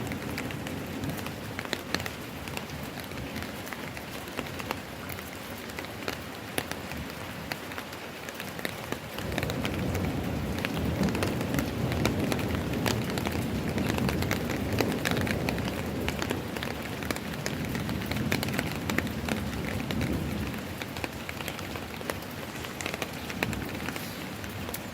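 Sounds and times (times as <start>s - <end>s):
rain falling: 0.0s - 24.9s
sharp raindrop ticks: 0.0s - 24.9s.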